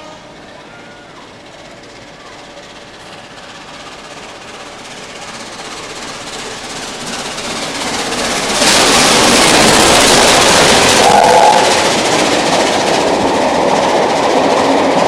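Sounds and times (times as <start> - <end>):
steam locomotive passing: 0.0 - 15.0.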